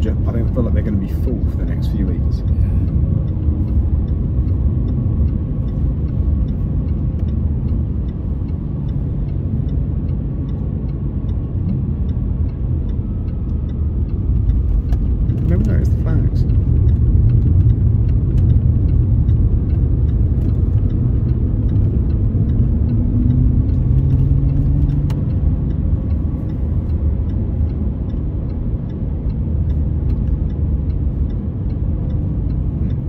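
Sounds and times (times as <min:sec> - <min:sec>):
car engine rumble: 0:00.0 - 0:33.0
faint regular ticking: 0:00.0 - 0:33.0
road noise: 0:00.0 - 0:33.0.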